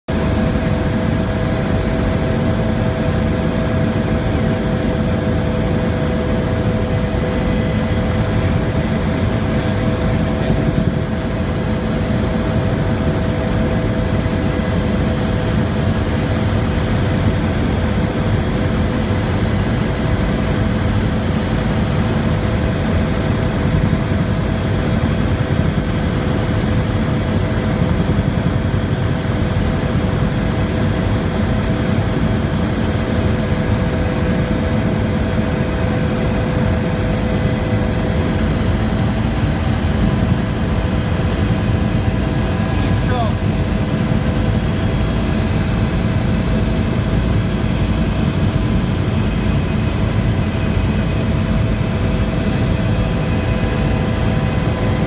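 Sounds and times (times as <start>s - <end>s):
helicopter cabin rumble: 0.1s - 55.0s.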